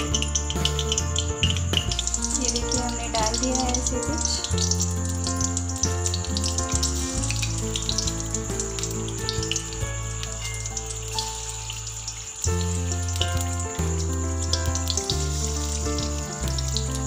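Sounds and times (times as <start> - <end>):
background music with bass line: 0.0 - 17.0
food deep-frying in hot oil: 0.0 - 17.0.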